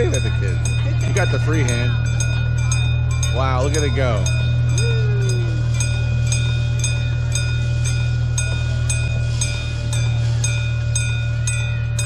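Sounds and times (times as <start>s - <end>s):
crossing signal bell ringing: 0.0s - 12.0s
low rumble: 0.0s - 12.0s.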